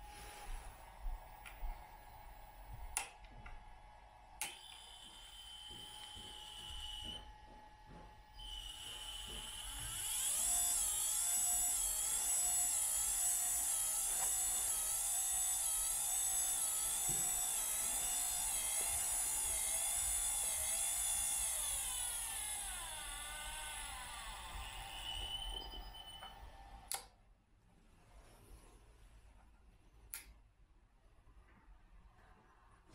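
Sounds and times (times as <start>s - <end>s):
electric motor whine: 0.0s - 26.9s.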